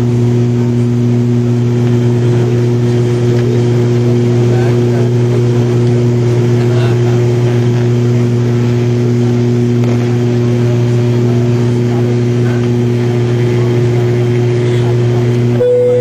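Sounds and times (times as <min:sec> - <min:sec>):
propeller drone in aircraft cabin: 0:00.0 - 0:16.0.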